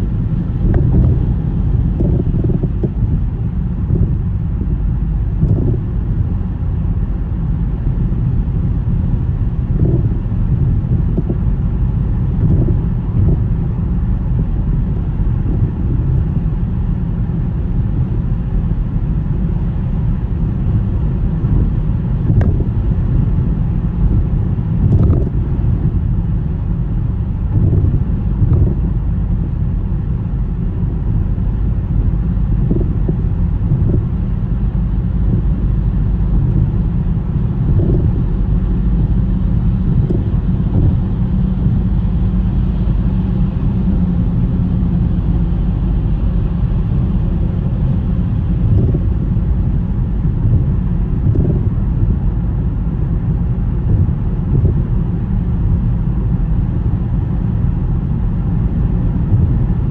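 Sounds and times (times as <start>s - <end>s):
car road and wind rumble: 0.0s - 59.9s.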